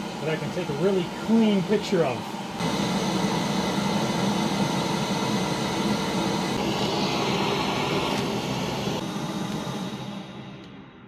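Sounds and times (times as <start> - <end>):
shop vac running: 0.0 - 11.0.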